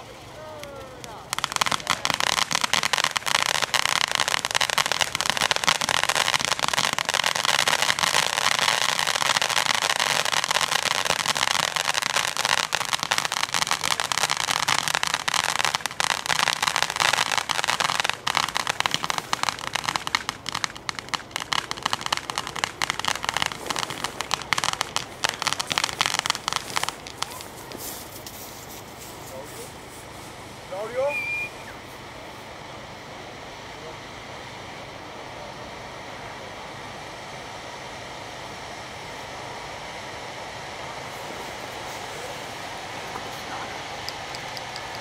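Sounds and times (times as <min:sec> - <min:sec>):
fireworks crackling: 0:00.0 - 0:45.0.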